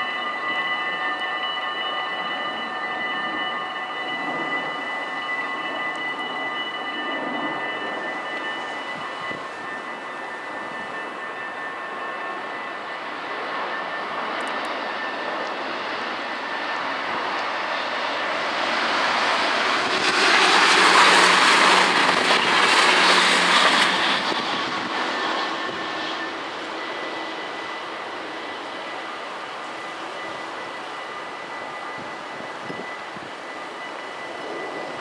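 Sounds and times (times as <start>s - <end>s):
electric train rumble and rail noise: 0.0s - 35.0s
level crossing bells ringing: 0.0s - 35.0s.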